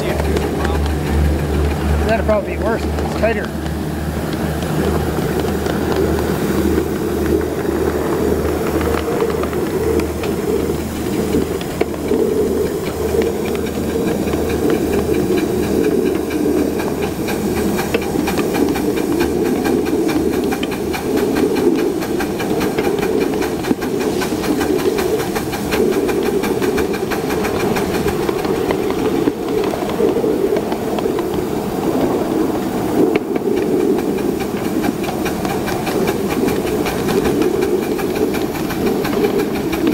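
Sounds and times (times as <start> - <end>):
low pulsing of locomotive: 0.0 - 39.9
steam hissing: 0.0 - 39.9.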